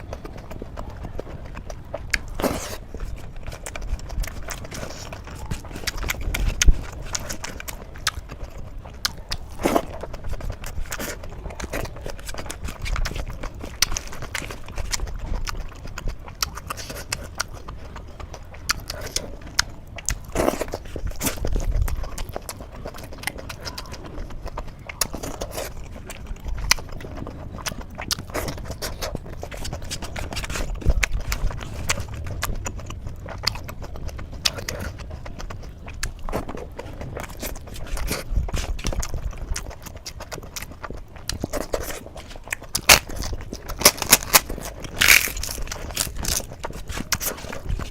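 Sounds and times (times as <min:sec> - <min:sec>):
chewing with wet mouth smacks: 0:00.0 - 0:47.9.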